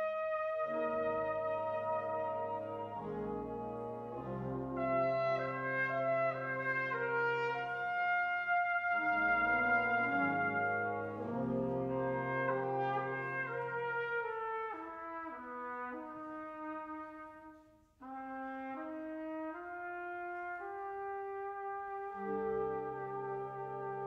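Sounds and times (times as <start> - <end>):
brass playing sustained chords: 0.0 - 24.0.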